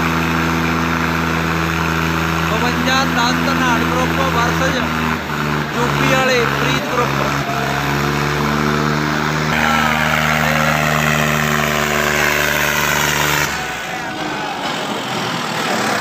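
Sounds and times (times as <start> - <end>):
tractor engine under load: 0.0 - 16.0.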